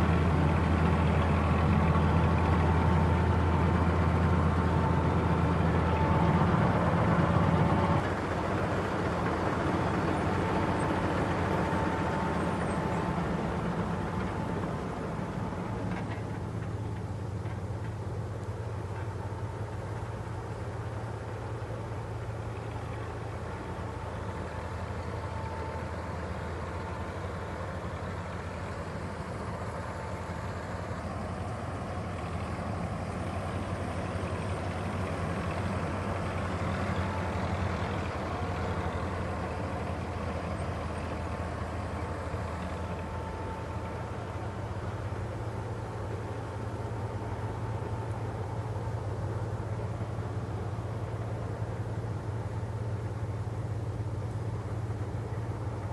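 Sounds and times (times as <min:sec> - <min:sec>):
tractor engine droning: 0:00.0 - 0:55.9.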